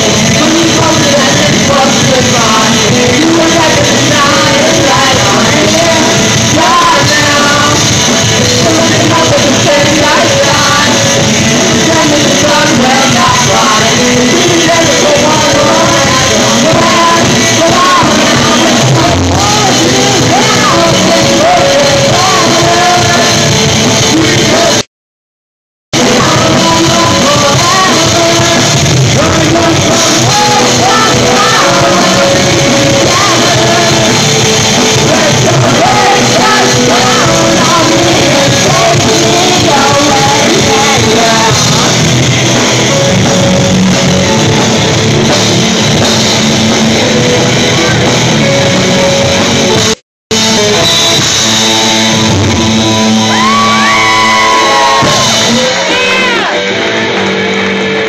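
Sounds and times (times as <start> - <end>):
live rock band playing: 0.0 - 24.9, 26.0 - 58.0
person singing: 0.0 - 24.9, 26.0 - 58.0.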